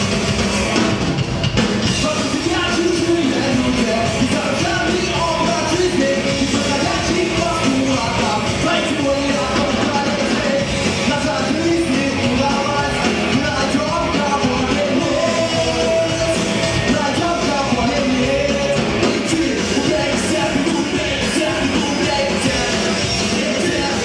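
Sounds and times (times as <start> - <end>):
bass guitar: 0.0 - 24.0
drum kit: 0.0 - 24.0
electric guitar: 0.0 - 24.0
man singing: 1.8 - 24.0.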